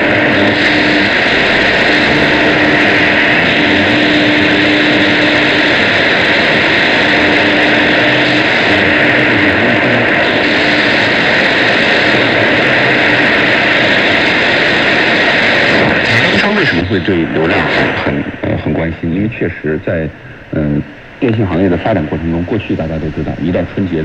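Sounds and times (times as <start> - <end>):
faint low hum: 0.0 - 24.0
radio static hiss: 0.0 - 24.0.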